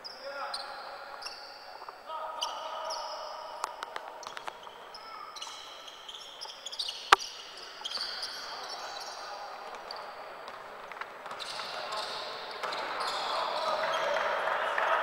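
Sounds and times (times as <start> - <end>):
sneakers squeaking on floor: 0.0 - 14.4.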